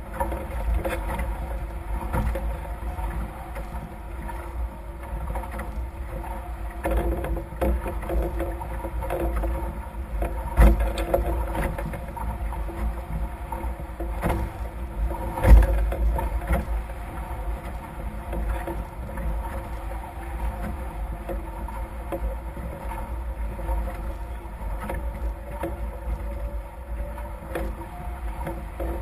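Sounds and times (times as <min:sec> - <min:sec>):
water rushing along hulls: 0:00.0 - 0:29.0
wind on microphone: 0:00.0 - 0:29.0.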